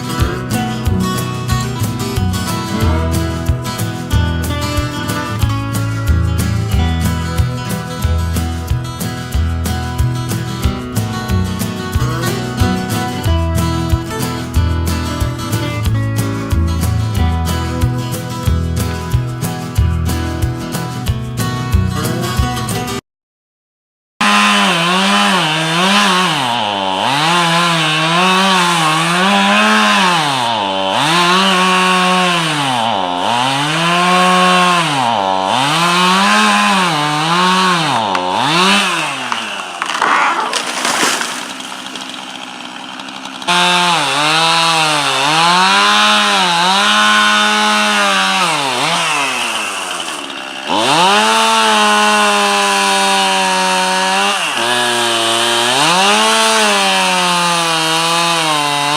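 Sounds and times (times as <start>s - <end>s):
chainsaw engine revving: 0.0s - 18.9s, 24.2s - 58.9s.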